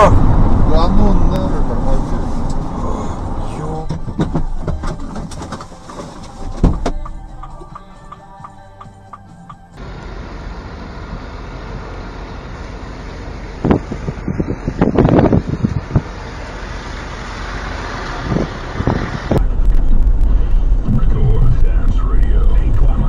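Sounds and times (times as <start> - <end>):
car road and engine noise: 0.0 - 23.0
deep rumble: 0.0 - 23.0.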